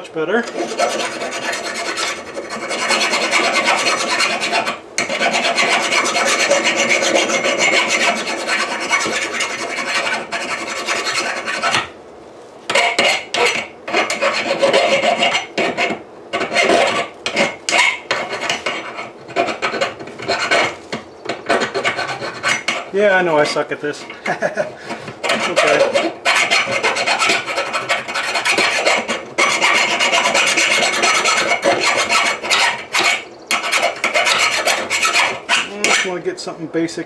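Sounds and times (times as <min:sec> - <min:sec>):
hand file rasping on steel anvil: 0:00.4 - 0:11.9, 0:12.7 - 0:36.2.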